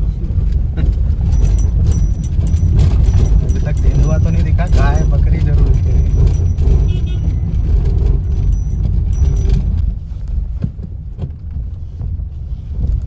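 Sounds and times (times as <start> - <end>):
car rumbling on dirt track: 0.0 - 13.0.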